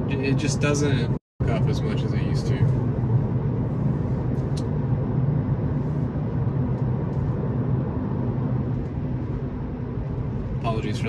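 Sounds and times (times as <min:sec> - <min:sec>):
road and tyre rumble in car: 0:00.0 - 0:11.0.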